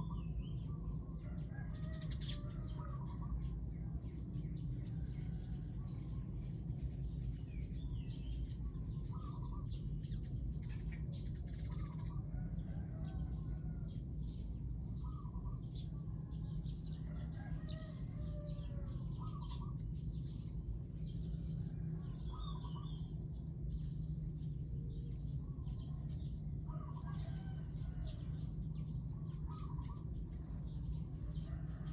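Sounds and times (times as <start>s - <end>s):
steady low rumble: 0.0s - 31.9s.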